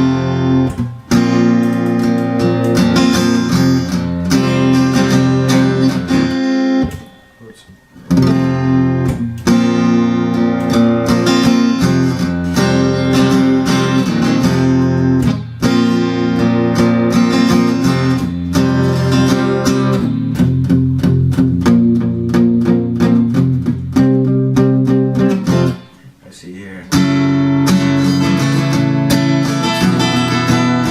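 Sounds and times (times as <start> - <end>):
amplified guitar strumming chords: 0.0 - 26.2, 26.9 - 30.9.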